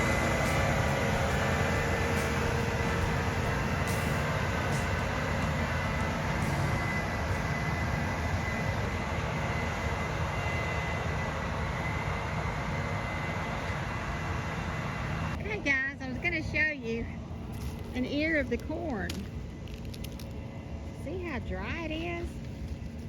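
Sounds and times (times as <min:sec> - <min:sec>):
combine harvester droning: 0:00.0 - 0:23.0.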